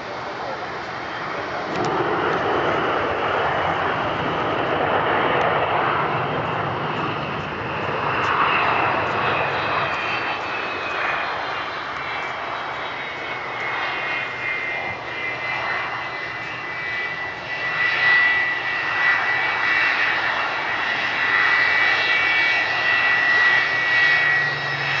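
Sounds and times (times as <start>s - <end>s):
jet engines whining and roaring: 0.0s - 25.0s.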